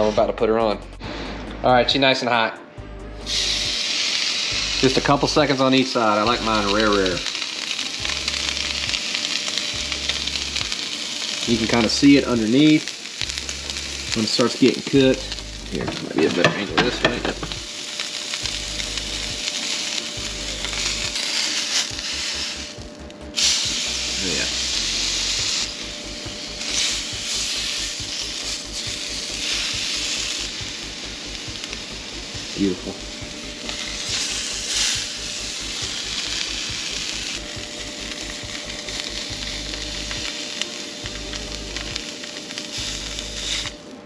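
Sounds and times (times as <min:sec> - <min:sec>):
fish sizzling in a grill pan: 0:03.2 - 0:44.0.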